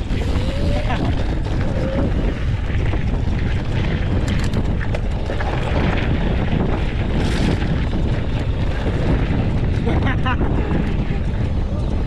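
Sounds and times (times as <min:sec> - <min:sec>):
bike clicks and knocks: 0:00.0 - 0:12.0
wind rumbling on microphone: 0:00.0 - 0:12.0.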